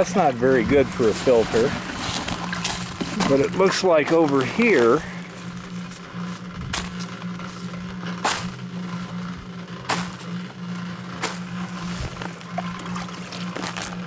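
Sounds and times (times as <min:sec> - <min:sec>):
cement mixer running: 0:00.0 - 0:14.0.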